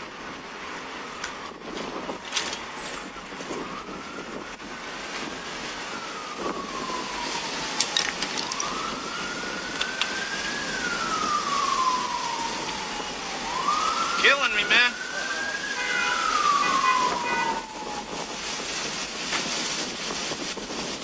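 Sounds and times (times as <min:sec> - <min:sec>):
siren wailing: 0:00.6 - 0:19.3.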